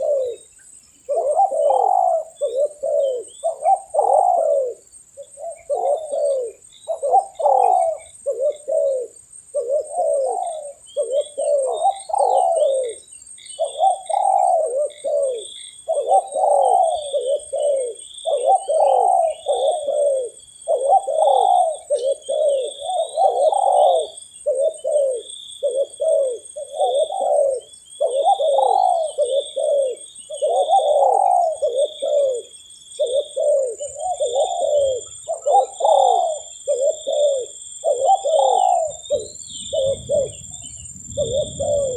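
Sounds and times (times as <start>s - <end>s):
doves cooing: 0.0s - 41.9s
small birds chirping: 0.0s - 41.9s.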